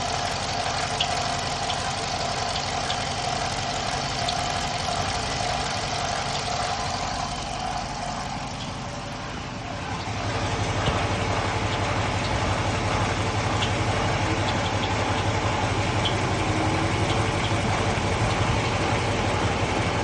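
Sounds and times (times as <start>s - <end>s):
high chirps: 0.0s - 10.2s, 11.7s - 20.0s
car engine idling: 0.0s - 20.0s.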